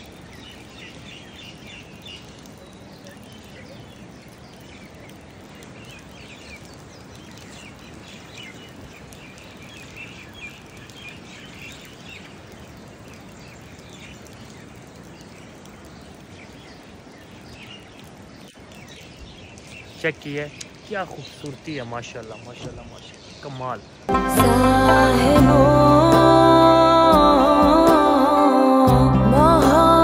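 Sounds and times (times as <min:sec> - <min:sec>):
small birds chirping and singing: 0:00.0 - 0:30.0.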